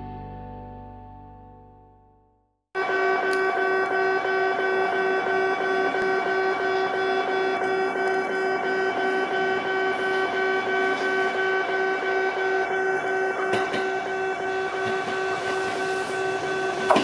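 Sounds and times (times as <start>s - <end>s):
level crossing alarm ringing: 2.8s - 17.0s
train running: 2.9s - 17.0s.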